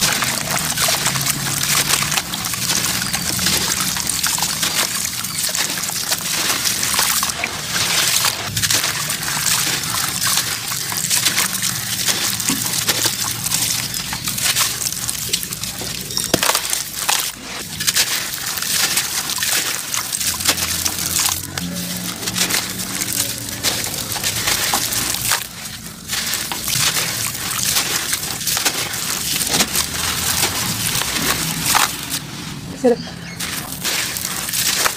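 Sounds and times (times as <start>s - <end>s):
gritty crackle of crumbling clumps: 0.0s - 34.9s
water sloshing and trickling: 0.0s - 34.9s.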